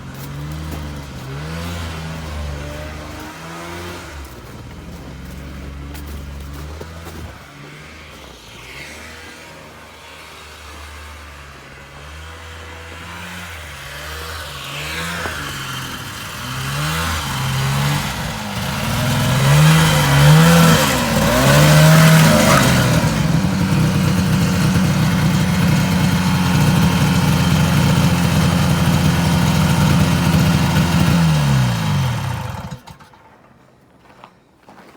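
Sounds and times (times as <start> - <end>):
snowmobile engine revving: 0.0 - 33.1.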